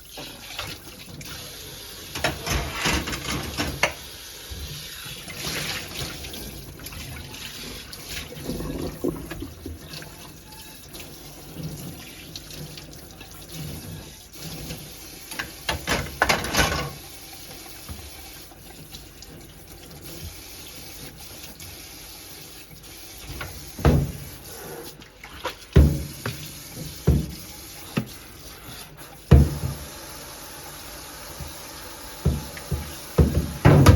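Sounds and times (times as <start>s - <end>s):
water running and splashing: 0.0s - 33.9s.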